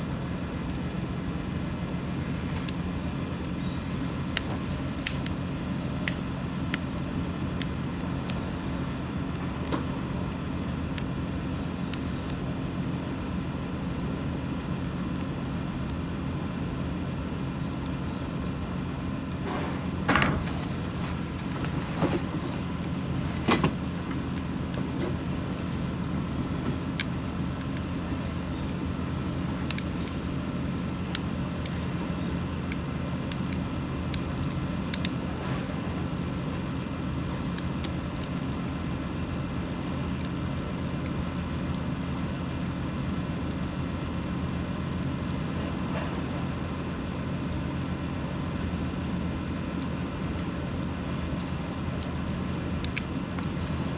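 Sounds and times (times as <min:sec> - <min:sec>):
steady low rumble: 0:00.0 - 0:53.9
wood fire crackling: 0:00.0 - 0:53.9.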